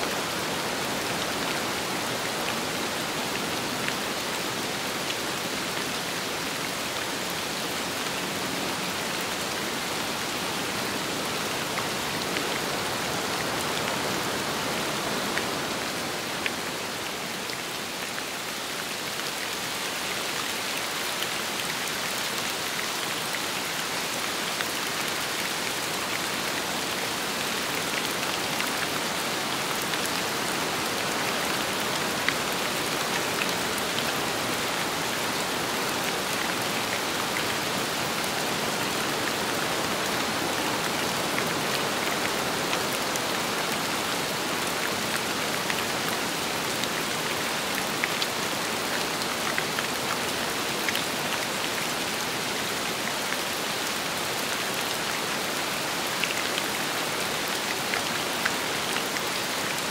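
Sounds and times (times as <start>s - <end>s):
steady rain: 0.0s - 59.9s
wind: 0.0s - 59.9s.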